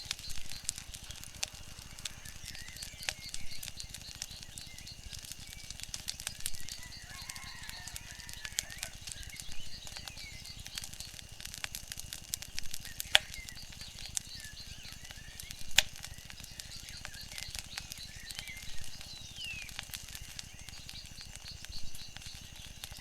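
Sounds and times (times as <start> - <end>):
faint bird chirps: 0.0 - 11.2, 12.6 - 23.0
wood fire crackling and popping: 0.0 - 23.0.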